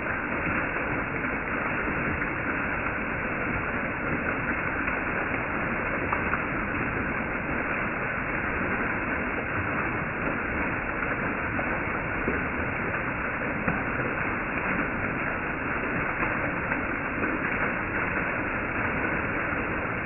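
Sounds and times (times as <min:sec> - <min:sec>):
small waterfall splashing: 0:00.0 - 0:20.0.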